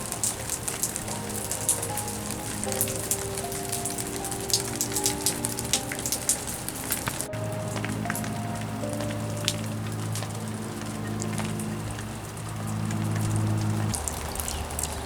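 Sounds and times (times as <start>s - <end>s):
rain falling: 0.0s - 15.0s
soft music with held notes: 0.0s - 15.0s.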